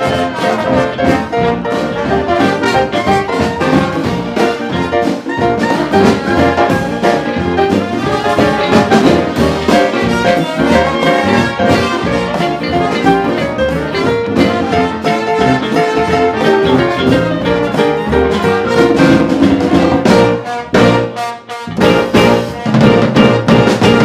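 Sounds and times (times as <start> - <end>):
drums beat: 0.0 - 24.0
jazz band with brass horns: 0.0 - 24.0.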